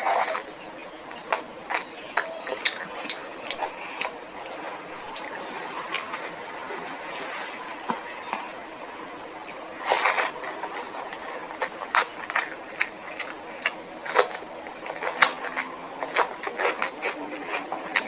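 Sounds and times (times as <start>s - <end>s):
chewing with mouth clicks: 0.0s - 18.0s.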